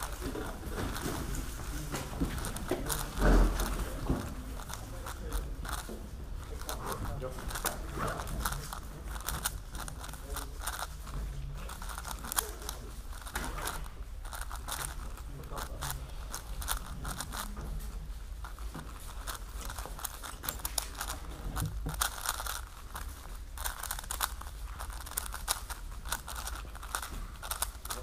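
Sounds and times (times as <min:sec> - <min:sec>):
puzzle cube clicking as turned: 0:00.0 - 0:28.0.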